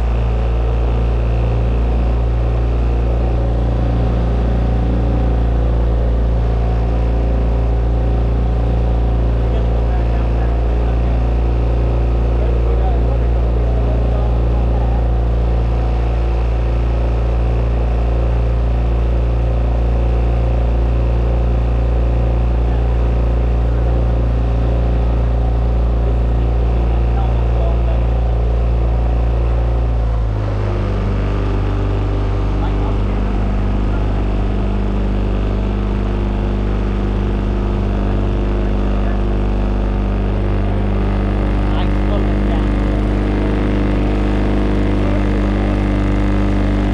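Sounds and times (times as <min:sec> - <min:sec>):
motorboat engine drone: 0:00.0 - 0:46.9
steady tonal hum: 0:00.0 - 0:46.9.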